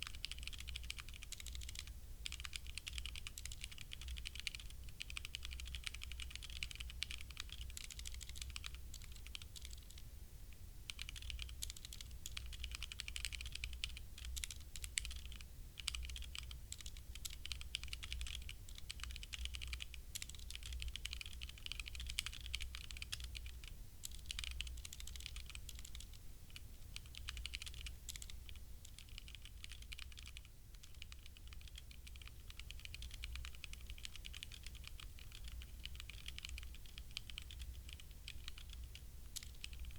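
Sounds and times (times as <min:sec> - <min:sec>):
typing on mechanical keyboard: 0:00.0 - 0:10.0, 0:10.9 - 0:39.9.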